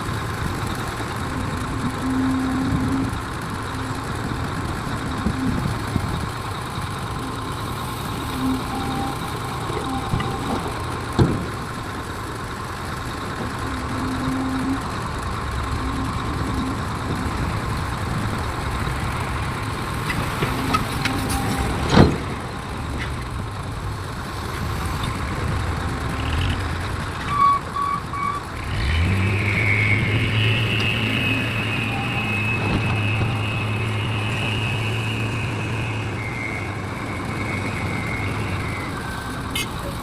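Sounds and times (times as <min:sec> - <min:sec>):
engine drone with high whine: 0:00.0 - 0:40.0
heavy diesel machinery running: 0:00.0 - 0:40.0.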